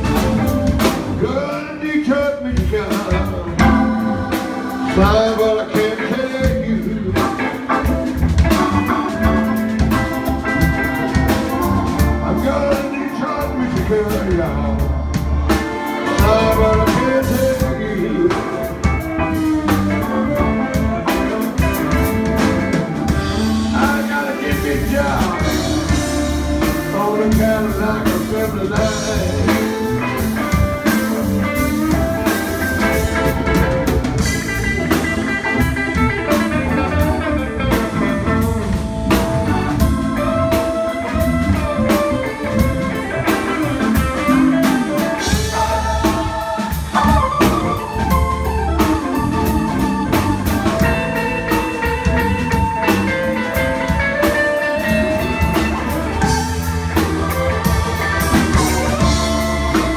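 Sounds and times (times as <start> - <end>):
drum kit: 0.0 - 59.9
electric bass: 0.0 - 59.9
electric guitars: 0.0 - 59.9
organ: 0.0 - 59.9.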